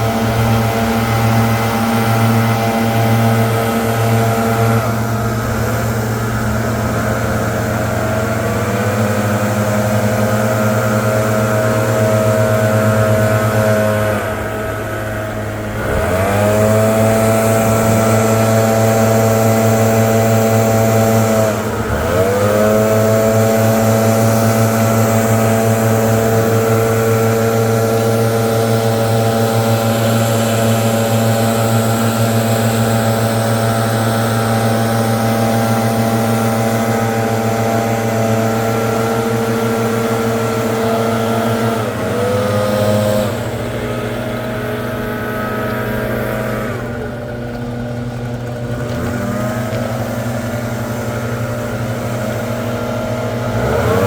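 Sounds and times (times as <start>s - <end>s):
leaf blower engine running: 0.0s - 54.0s.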